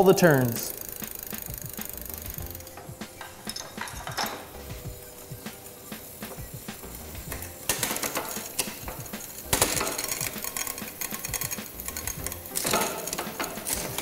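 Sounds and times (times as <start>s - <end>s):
bicycle chain clatter: 0.0s - 14.0s
bicycle chain rattling click: 0.0s - 14.0s.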